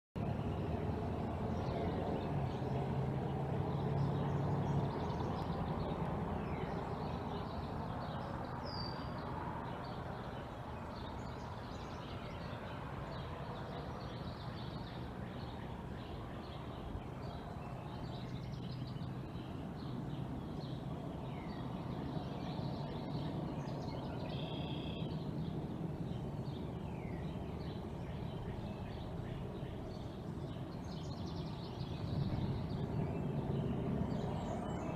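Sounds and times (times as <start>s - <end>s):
small birds chirping: 0.2s - 34.9s
steady low rumble: 0.2s - 34.9s.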